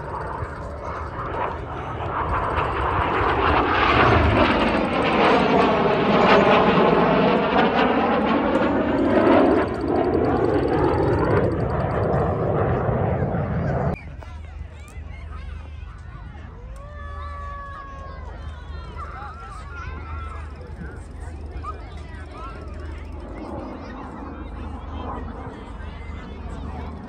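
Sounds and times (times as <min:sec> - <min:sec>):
jet aircraft flying past: 0:00.0 - 0:27.0.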